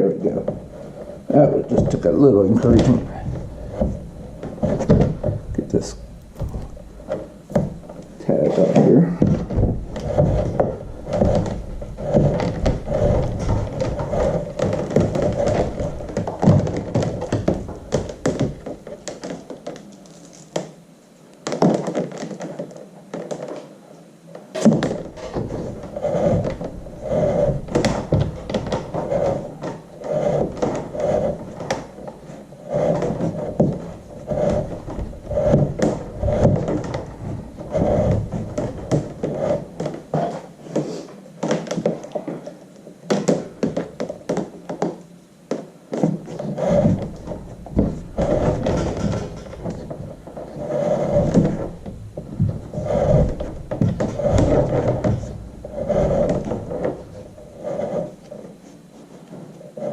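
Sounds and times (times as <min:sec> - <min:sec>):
knocks and scrapes on kayak hull: 0:00.3 - 0:20.8, 0:24.6 - 0:42.5, 0:43.1 - 0:59.9.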